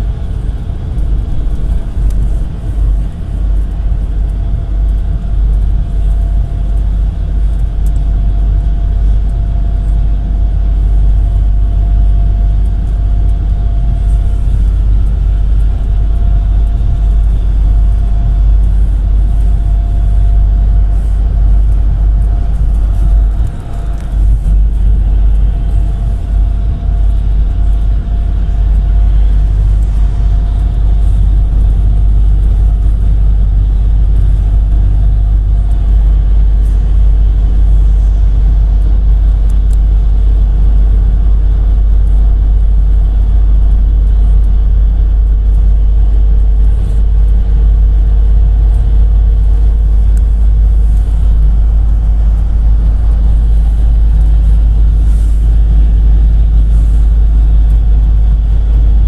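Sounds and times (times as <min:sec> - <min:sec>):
faint whine: 0:00.0 - 0:59.0
minibus engine and road rumble: 0:00.0 - 0:59.0.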